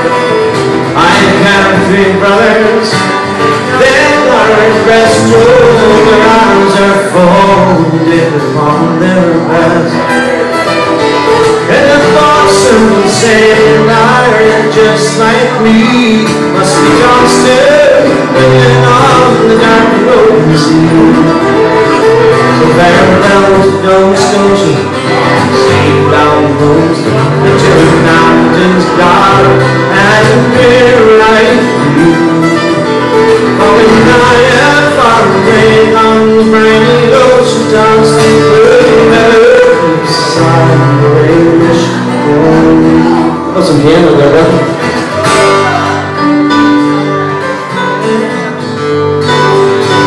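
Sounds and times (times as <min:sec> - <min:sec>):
fiddle melody: 0:00.0 - 0:50.0
keyboard chords: 0:00.0 - 0:50.0
strummed acoustic guitars: 0:00.0 - 0:50.0.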